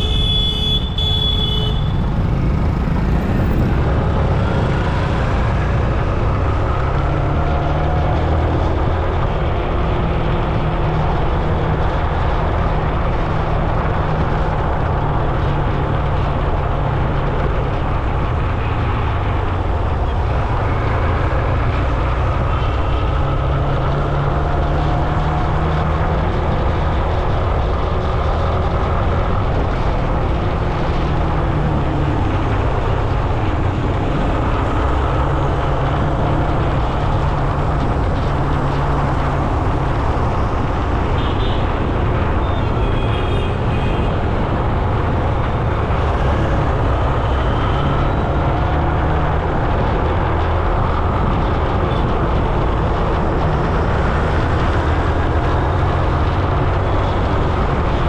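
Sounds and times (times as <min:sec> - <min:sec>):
vehicle road rumble and wind: 0:00.0 - 0:58.0.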